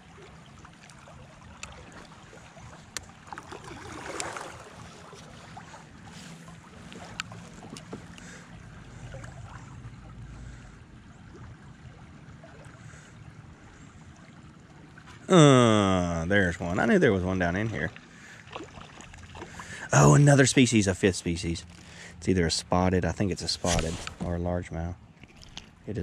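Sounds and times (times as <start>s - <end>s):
river water: 0.0s - 26.0s
wind: 0.0s - 26.0s.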